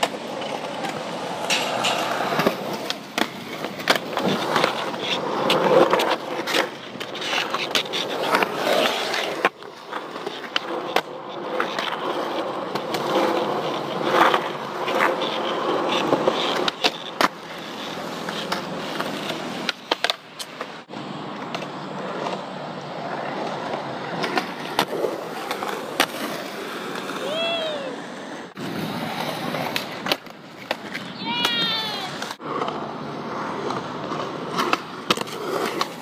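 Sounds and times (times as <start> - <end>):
skateboard clacking on concrete: 0.0 - 27.4, 28.8 - 36.0
skateboard wheels rolling on concrete: 0.0 - 36.0.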